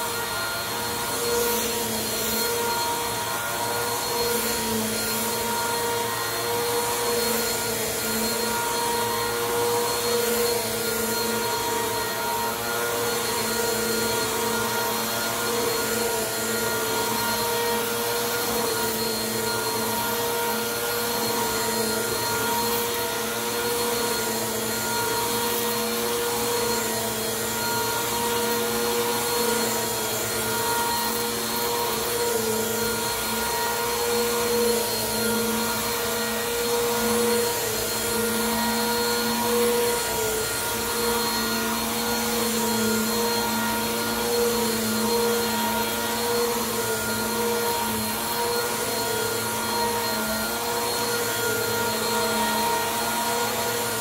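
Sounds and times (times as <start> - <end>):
vacuum cleaner running on carpet: 0.0 - 54.0.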